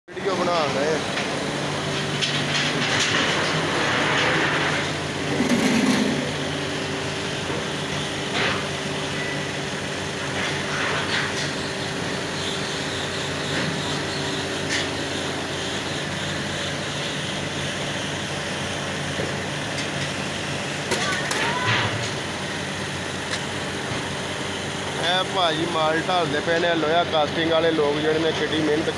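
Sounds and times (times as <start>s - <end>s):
steady machine drone: 0.1s - 28.9s.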